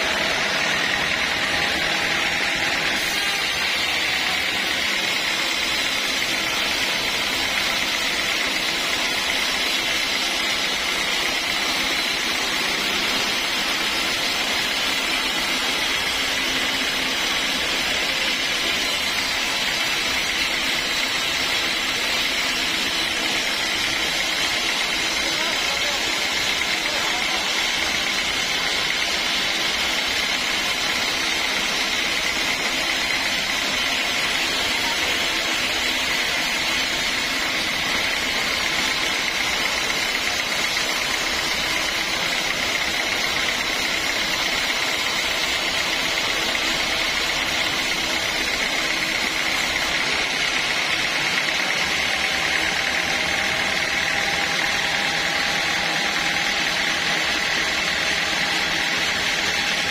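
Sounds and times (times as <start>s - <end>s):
sawmill machinery whining: 0.0s - 59.9s.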